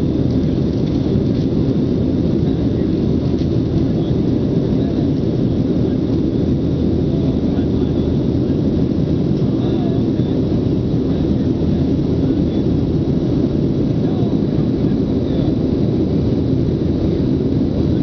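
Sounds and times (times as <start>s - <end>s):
airplane cabin engine roar: 0.0s - 18.0s
faint high engine whine: 0.0s - 18.0s.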